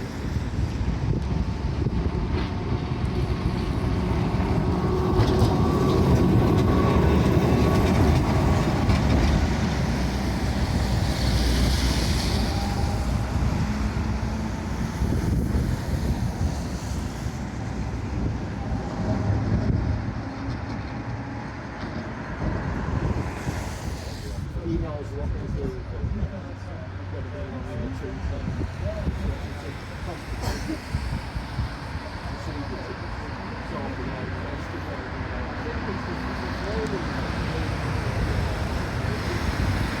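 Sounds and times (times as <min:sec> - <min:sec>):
tram rumbling on rails: 0:00.0 - 0:40.0.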